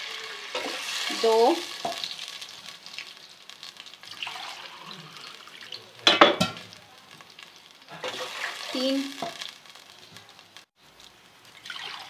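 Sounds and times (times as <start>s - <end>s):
water sizzling in hot ghee: 0.0s - 12.0s.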